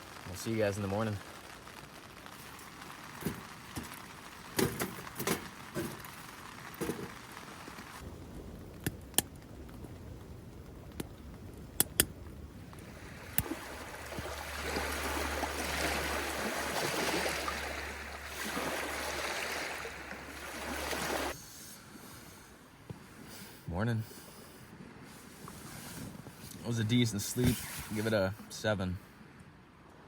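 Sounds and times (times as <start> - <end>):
rain beating on tent: 0.0 - 22.0, 25.1 - 28.8
low wind rumble: 0.0 - 28.0.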